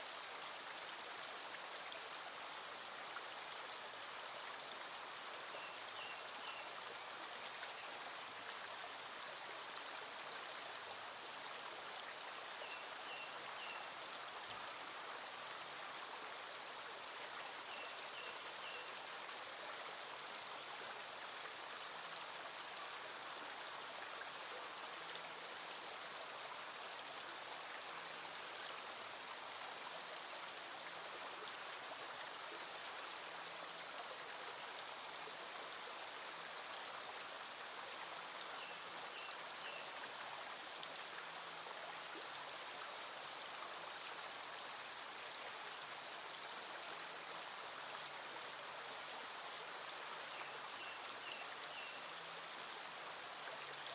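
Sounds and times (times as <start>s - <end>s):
stream flowing: 0.0s - 53.9s.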